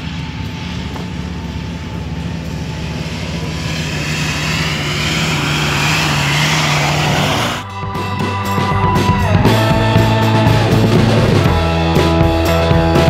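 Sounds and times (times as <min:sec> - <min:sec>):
engine running with steady drone: 0:00.0 - 0:13.0.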